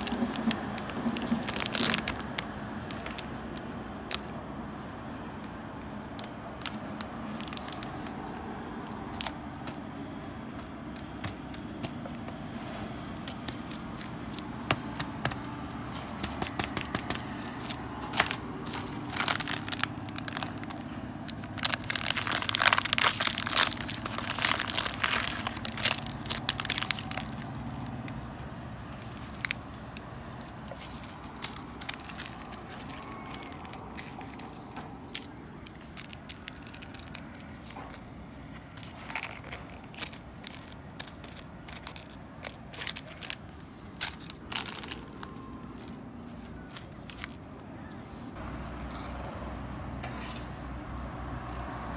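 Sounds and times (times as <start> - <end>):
plastic packaging crinkling: 0.0 - 4.3, 5.8 - 9.8, 10.6 - 47.4.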